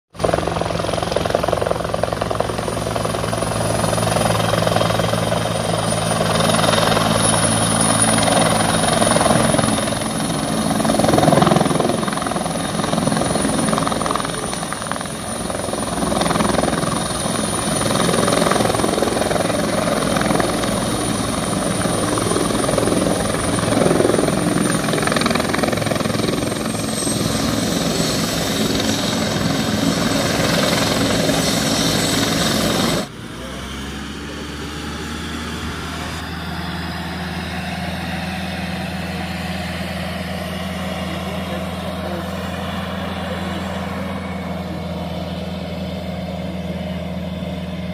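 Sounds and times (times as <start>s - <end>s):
helicopter rotor and engine noise: 0.1s - 47.9s.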